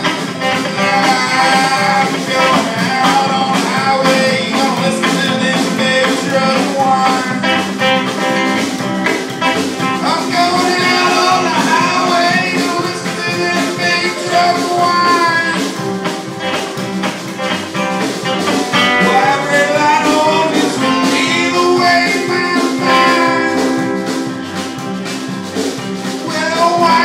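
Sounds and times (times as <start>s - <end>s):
acoustic guitars: 0.0s - 27.0s
person singing: 0.0s - 27.0s
upright bass: 0.0s - 27.0s.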